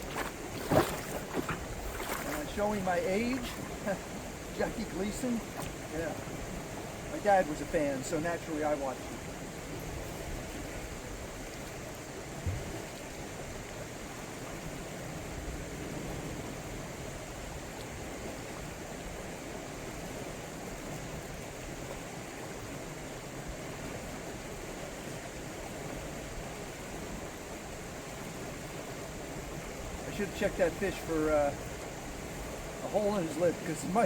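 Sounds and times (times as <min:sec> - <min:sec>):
river flowing over rocks: 0:00.0 - 0:34.0.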